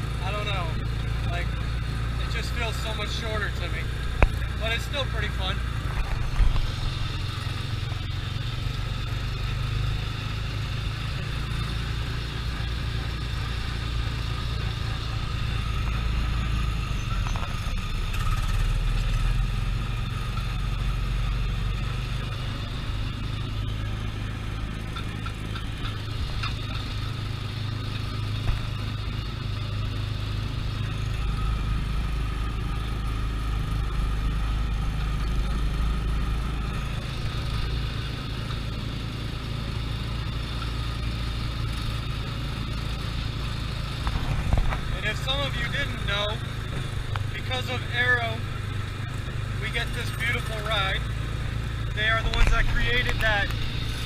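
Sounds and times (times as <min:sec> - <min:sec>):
small gasoline engine running: 0:00.0 - 0:54.0.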